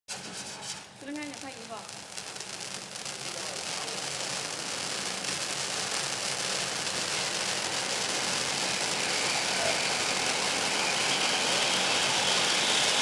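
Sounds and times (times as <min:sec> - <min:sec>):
firework fountain hissing: 0:00.1 - 0:13.0.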